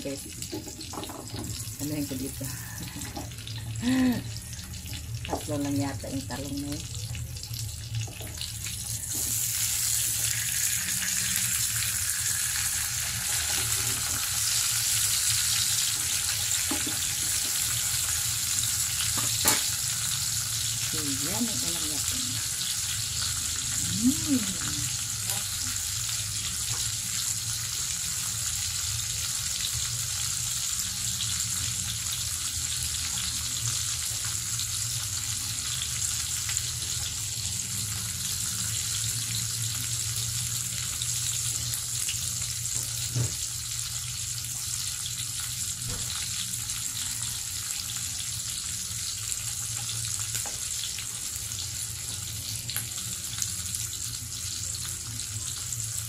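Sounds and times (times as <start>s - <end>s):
meat sizzling in a grill pan: 0.0s - 56.0s.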